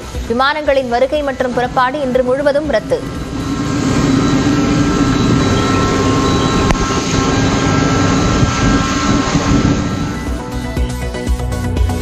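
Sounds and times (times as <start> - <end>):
jet aircraft engine drone: 1.2 - 10.8.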